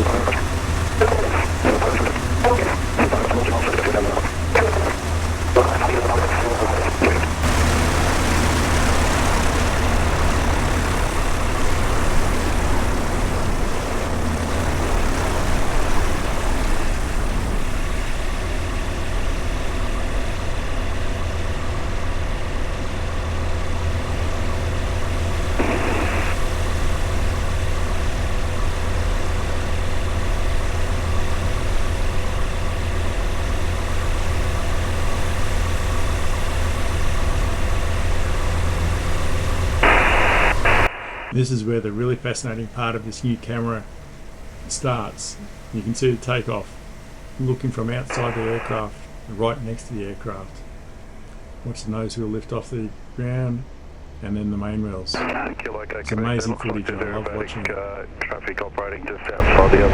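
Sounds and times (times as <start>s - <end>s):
aircraft piston engine droning: 0.0s - 59.9s.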